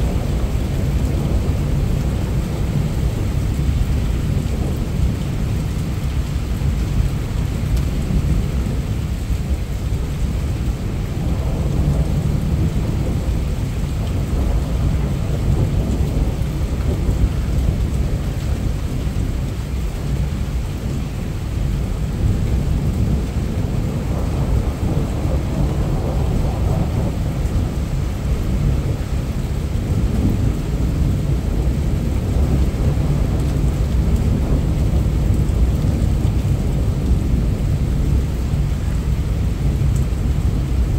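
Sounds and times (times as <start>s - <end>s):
heavy rain: 0.0s - 40.9s
thunder rumbling: 0.0s - 40.9s.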